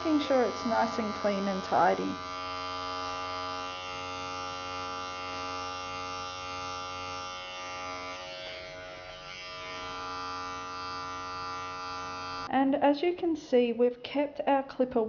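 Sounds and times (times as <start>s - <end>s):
pet clipper buzzing: 0.0s - 12.5s.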